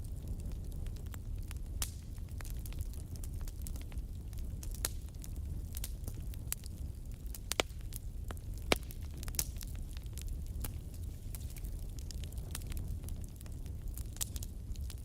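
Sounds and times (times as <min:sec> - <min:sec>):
burning wood popping: 0:00.0 - 0:15.0
campfire crackling: 0:00.0 - 0:15.0.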